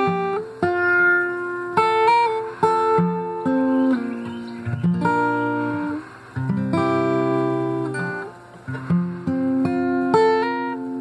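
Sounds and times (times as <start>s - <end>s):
guitar strumming slow chords: 0.0s - 11.0s.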